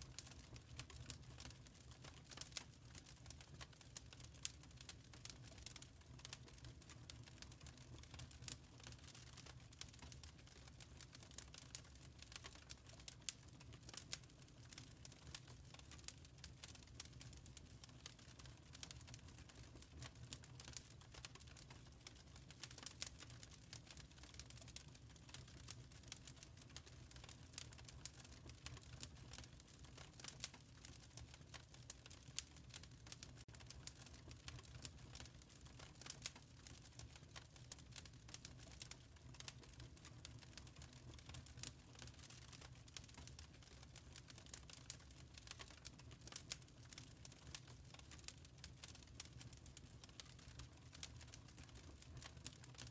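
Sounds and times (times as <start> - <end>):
wood fire crackling: 0.0 - 52.9
fire pops and snaps: 0.1 - 52.9.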